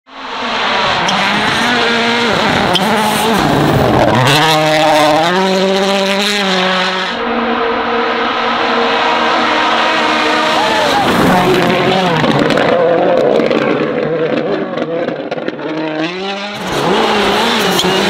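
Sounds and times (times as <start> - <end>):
rally car engine at high revs: 0.1 - 18.0.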